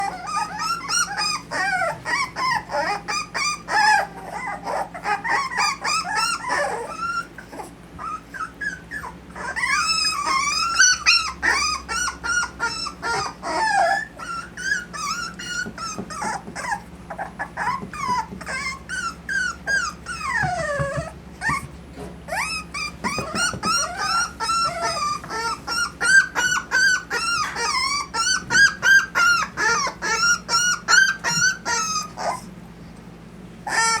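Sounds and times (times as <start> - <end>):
puppies whining and squealing: 0.0 - 34.0.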